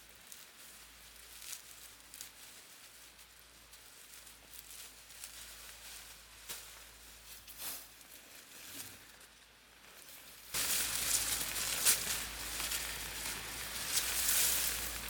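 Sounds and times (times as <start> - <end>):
faint rustling: 0.0 - 15.0
hissy rustling with crackles: 0.0 - 15.0.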